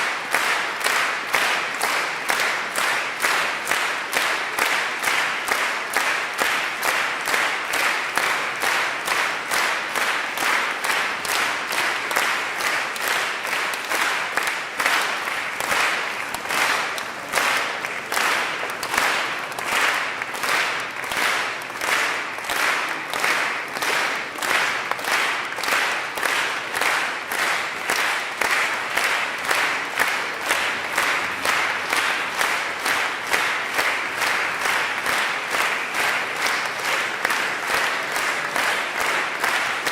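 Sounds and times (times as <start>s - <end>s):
audience clapping in unison: 0.0s - 39.9s.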